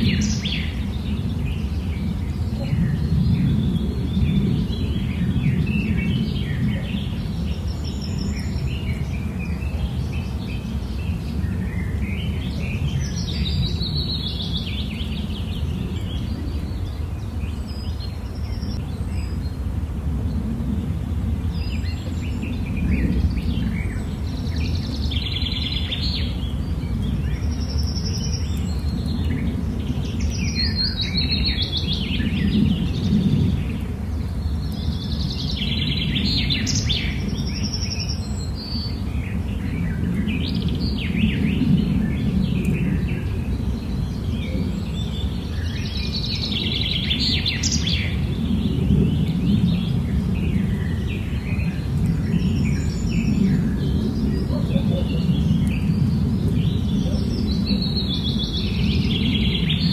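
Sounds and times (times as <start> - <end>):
small birds chirping: 0.0 - 59.9
steady low rumble: 0.0 - 59.9.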